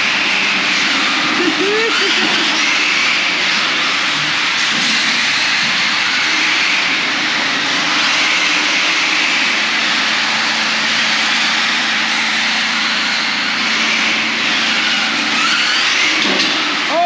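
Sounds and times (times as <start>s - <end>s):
radio-controlled cars racing: 0.0s - 17.0s.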